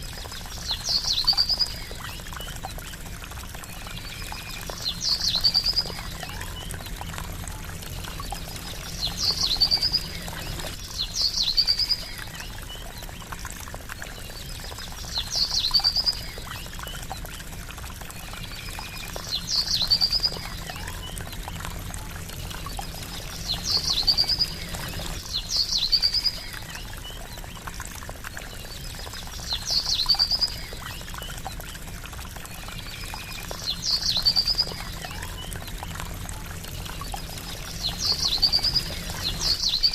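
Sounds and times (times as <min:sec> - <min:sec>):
trickling splashing water: 0:00.0 - 0:39.9.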